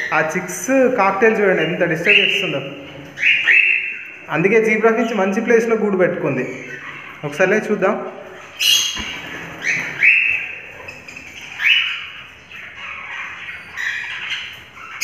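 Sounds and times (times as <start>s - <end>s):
parrots calling: 0.0s - 15.0s.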